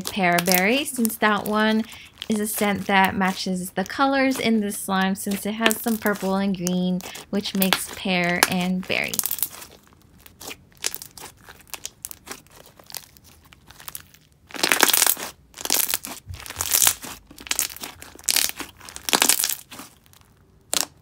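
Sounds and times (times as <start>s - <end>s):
slime crackling and popping: 0.0s - 21.0s.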